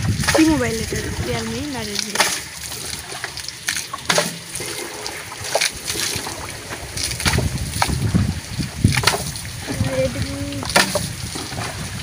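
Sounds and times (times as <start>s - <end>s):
water splashing against tyre: 0.0s - 12.0s
water trickling and dripping: 0.0s - 12.0s.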